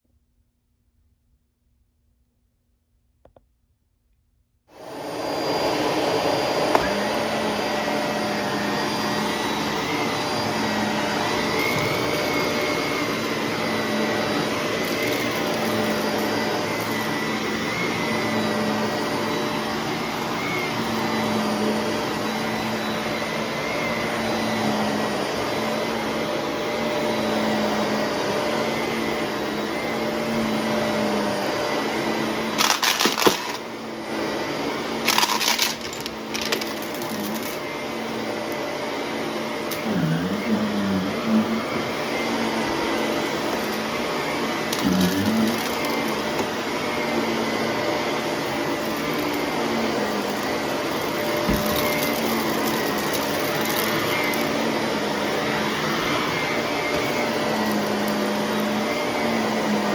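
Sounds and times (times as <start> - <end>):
vacuum cleaner running: 4.7 - 59.9.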